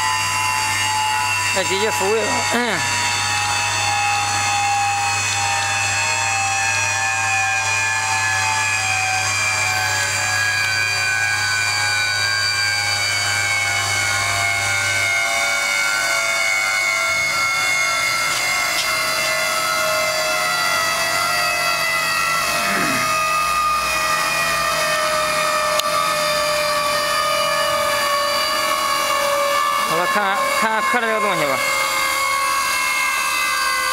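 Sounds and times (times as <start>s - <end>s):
machine noise: 0.0s - 33.9s
router spindle high whine: 0.0s - 33.9s.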